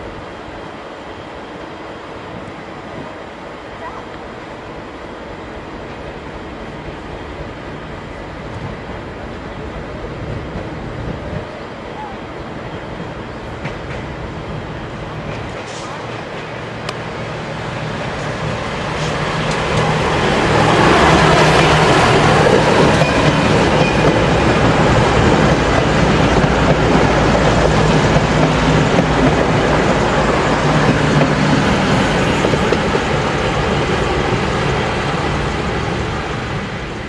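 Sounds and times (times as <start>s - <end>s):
diesel train engine drone: 0.0s - 37.0s
train wheels on rails: 0.0s - 37.0s.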